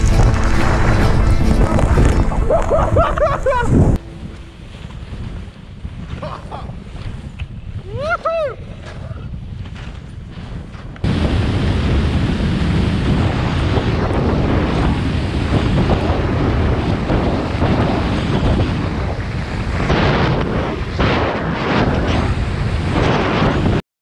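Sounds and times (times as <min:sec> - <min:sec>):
skis scraping over snow: 0:00.0 - 0:07.8, 0:08.6 - 0:21.0
wind buffeting microphone: 0:00.0 - 0:23.8.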